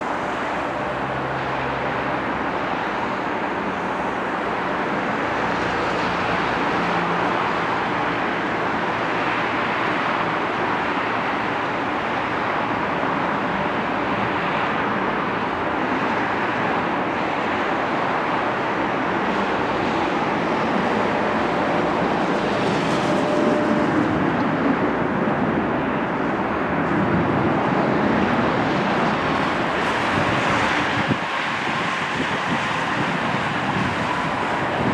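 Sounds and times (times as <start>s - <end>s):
jet airliner engines roaring: 0.0s - 34.9s.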